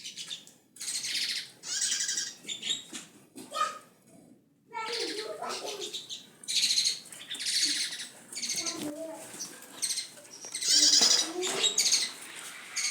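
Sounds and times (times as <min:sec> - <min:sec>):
songbird chirping and warbling: 0:00.0 - 0:03.0, 0:04.7 - 0:12.9.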